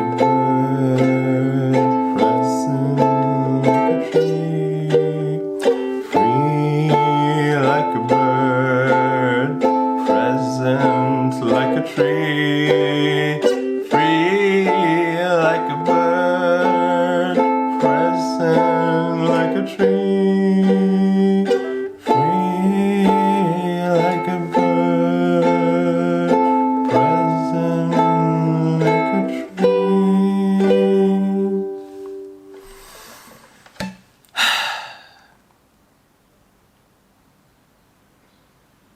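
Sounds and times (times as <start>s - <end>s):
wordless singing: 0.0s - 32.2s
strummed plucked-string instrument: 0.0s - 32.8s.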